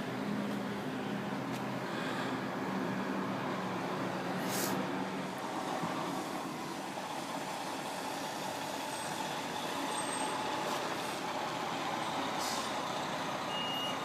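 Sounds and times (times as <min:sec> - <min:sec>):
fire engine engine running: 0:00.0 - 0:14.0.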